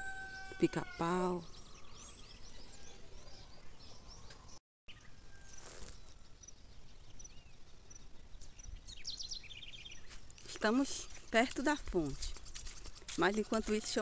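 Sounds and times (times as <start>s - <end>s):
faint outdoor background: 0.0s - 14.0s
small birds chirping: 0.3s - 14.0s.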